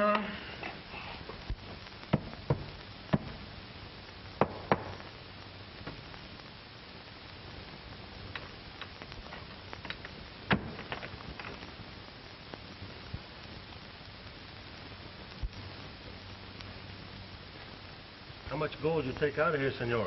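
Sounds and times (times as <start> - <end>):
film soundtrack hiss: 0.0 - 20.0.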